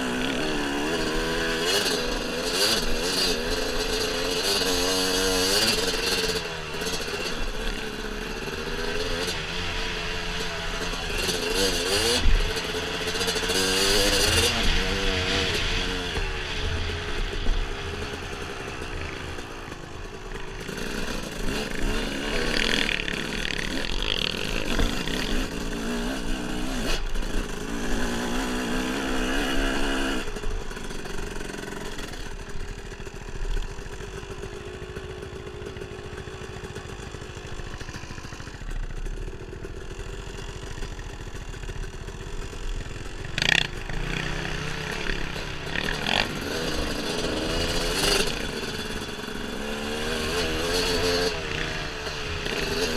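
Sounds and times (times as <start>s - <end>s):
dirt bike engine revving: 0.0s - 32.9s, 34.4s - 52.9s.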